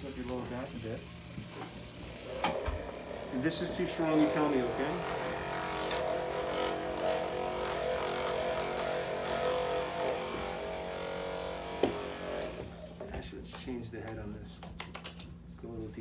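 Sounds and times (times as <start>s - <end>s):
massager motor hum: 0.0s - 13.3s.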